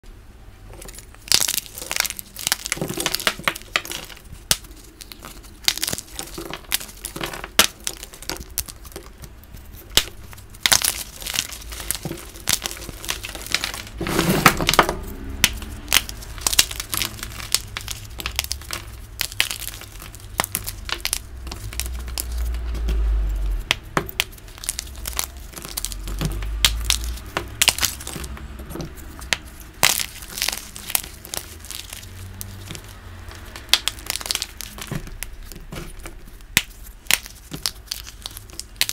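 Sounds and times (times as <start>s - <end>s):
chalk blocks crunching and crumbling: 0.7s - 38.9s.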